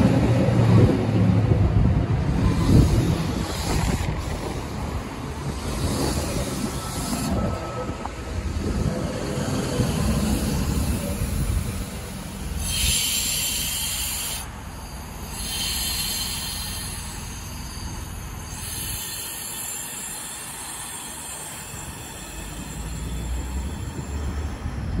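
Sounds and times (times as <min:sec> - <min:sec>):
train rumble: 0:00.0 - 0:25.0
air hissing: 0:02.4 - 0:08.0, 0:08.6 - 0:24.4.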